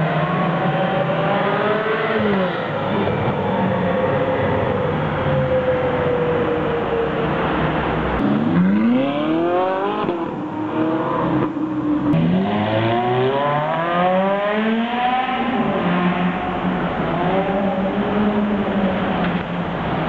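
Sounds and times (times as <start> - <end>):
car engines accelerating hard: 0.0 - 20.0
noisy traffic: 0.0 - 20.0.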